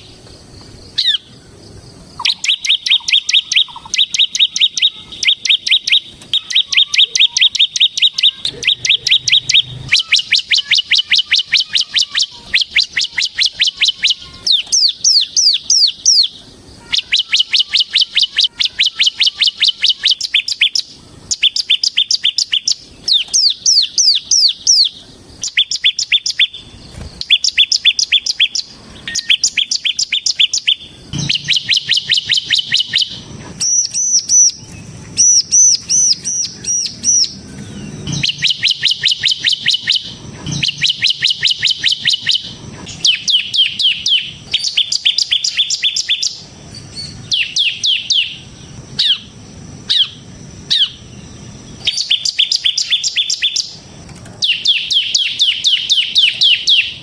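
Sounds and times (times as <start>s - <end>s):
bird whistling arched notes: 0.9s - 53.8s, 54.4s - 57.0s
bird singing fast high notes: 2.1s - 53.8s.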